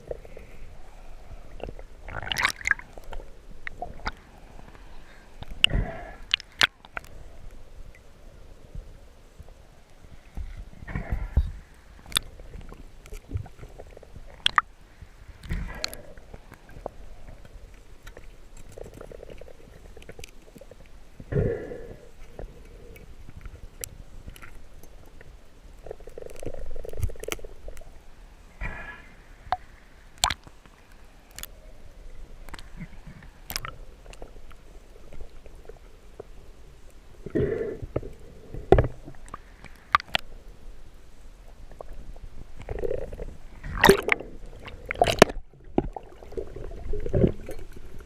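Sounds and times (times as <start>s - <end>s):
muffled water gurgling and sloshing: 0.0s - 48.0s.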